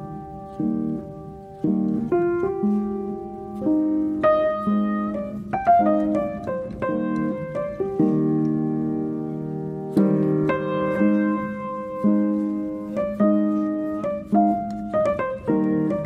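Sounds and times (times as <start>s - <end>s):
calm solo piano: 0.0s - 16.0s.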